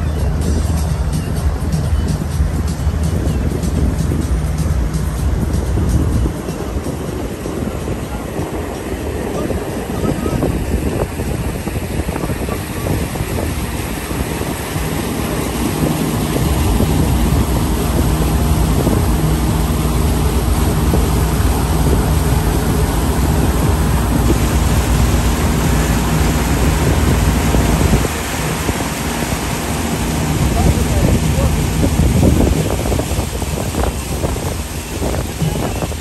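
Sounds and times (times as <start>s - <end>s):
boat motor running: 0.0s - 36.0s
water rushing past hull: 0.0s - 36.0s
wind buffeting microphone: 0.0s - 36.0s.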